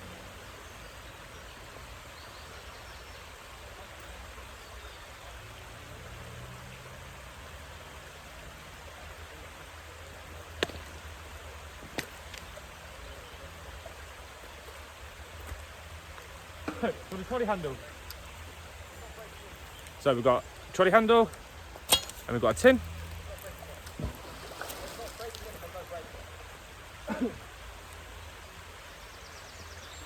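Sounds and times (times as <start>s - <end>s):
flowing water: 0.0s - 30.0s.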